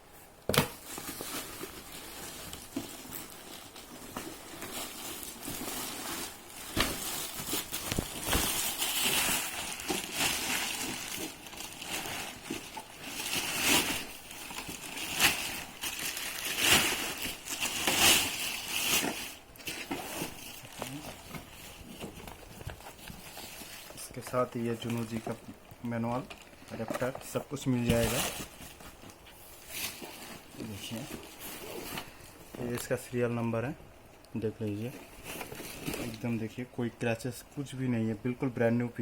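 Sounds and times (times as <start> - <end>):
packaging crinkling and rustling: 0.5 - 33.0, 34.8 - 36.5.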